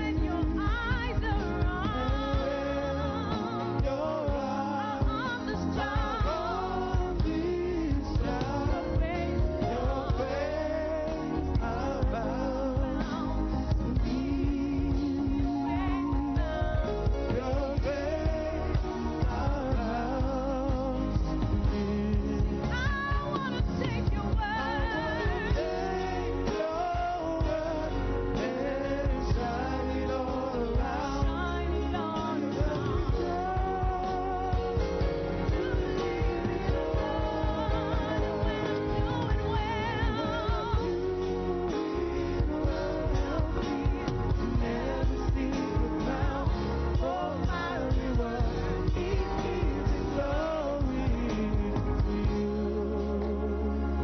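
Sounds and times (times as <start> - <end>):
drums playing a steady beat: 0.0 - 53.4
band with steady bass: 0.0 - 54.0
keyboard chords: 0.0 - 54.0
person singing with vibrato: 0.0 - 54.0.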